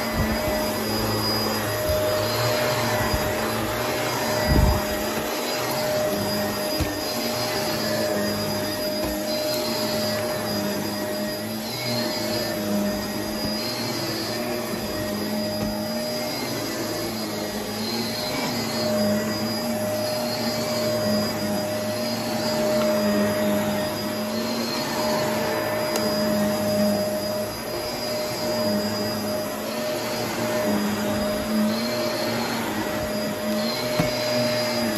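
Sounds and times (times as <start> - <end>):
vacuum cleaner running on carpet: 0.0 - 34.9.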